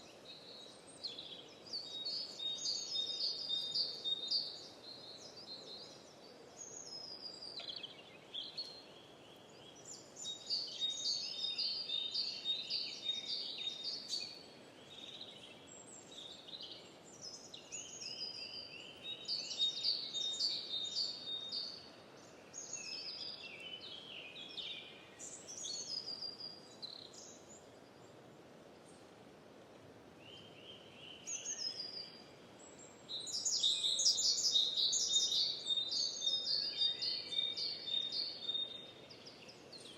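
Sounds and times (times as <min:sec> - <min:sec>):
birds singing: 0:00.0 - 0:28.2, 0:30.2 - 0:39.9
outdoor background hiss: 0:00.0 - 0:39.9.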